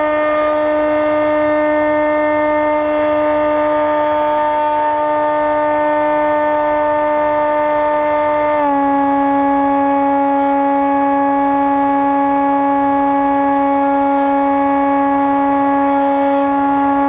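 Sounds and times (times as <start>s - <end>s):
model plane motor whine: 0.0s - 17.0s.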